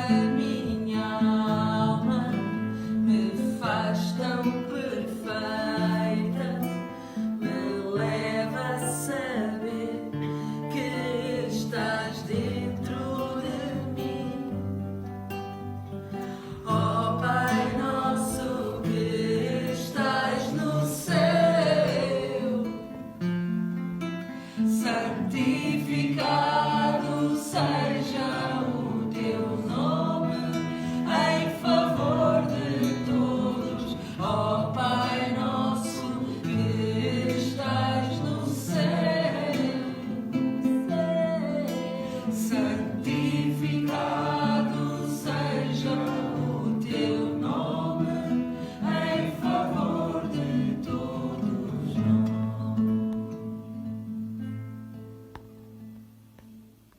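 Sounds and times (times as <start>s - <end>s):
group singing: 0.0s - 15.2s, 16.1s - 23.5s, 24.5s - 53.5s
acoustic guitar: 0.0s - 56.9s.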